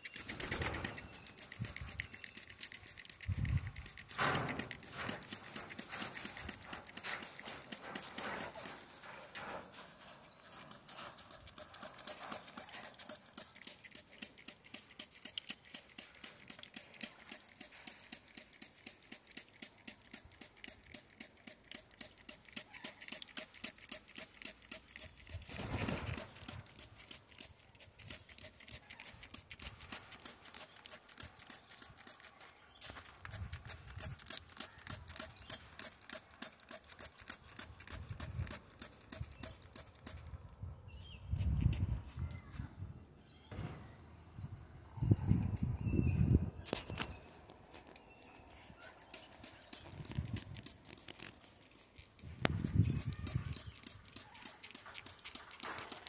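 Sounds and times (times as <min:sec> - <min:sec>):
spray bottle squirting mist: 0:00.0 - 0:40.4, 0:41.4 - 0:42.0, 0:48.7 - 0:56.0.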